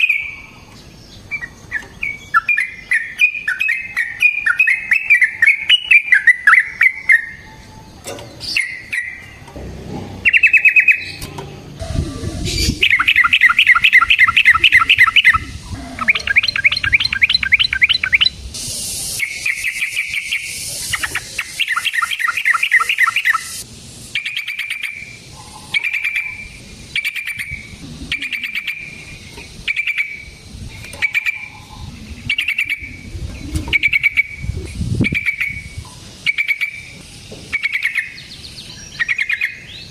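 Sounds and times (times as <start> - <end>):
bird singing rolling trills: 0.0 - 39.9.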